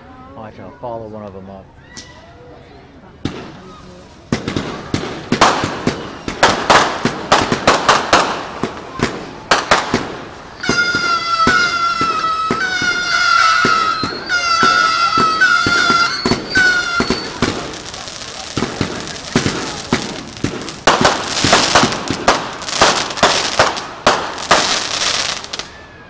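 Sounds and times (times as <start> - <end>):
firework bangs: 3.2 - 25.8
whistling fireworks: 3.2 - 26.0.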